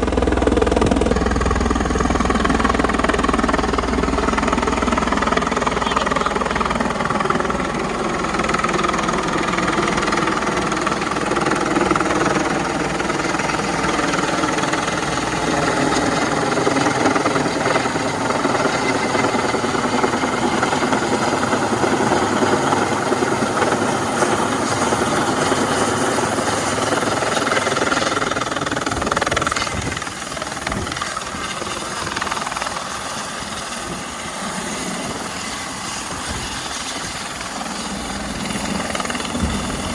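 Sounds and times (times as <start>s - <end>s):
helicopter engine tone: 0.0s - 39.9s
helicopter rotor beating: 0.0s - 39.9s.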